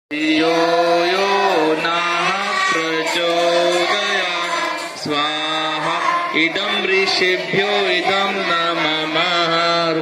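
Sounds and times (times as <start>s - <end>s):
man chanting: 0.1s - 10.0s.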